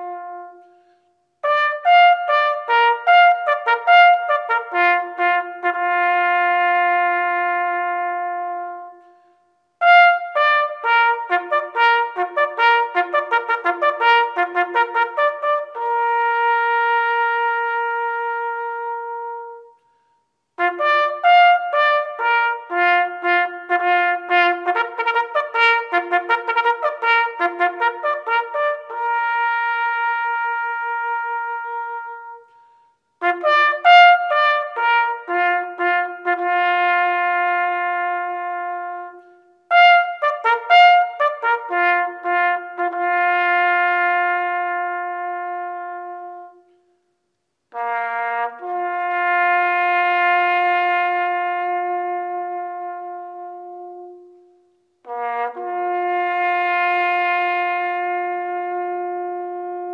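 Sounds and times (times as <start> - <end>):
solo bugle call: 0.0 - 47.1, 47.7 - 59.9.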